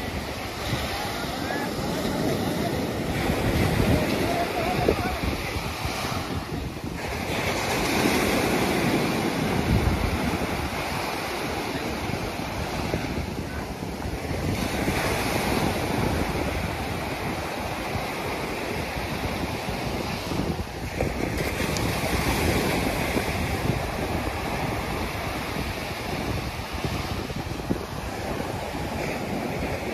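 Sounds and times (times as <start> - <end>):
ocean surf breaking: 0.0 - 29.9.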